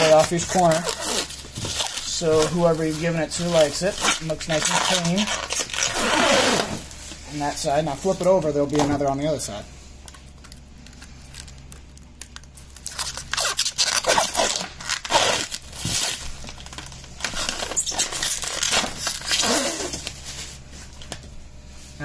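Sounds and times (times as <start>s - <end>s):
plastic film crinkling: 0.0s - 21.2s.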